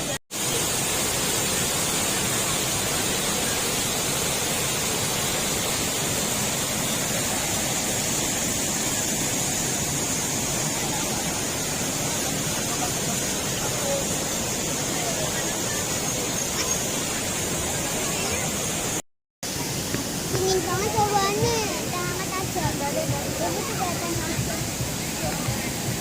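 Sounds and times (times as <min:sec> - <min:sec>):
waterfall crashing: 0:00.0 - 0:26.0.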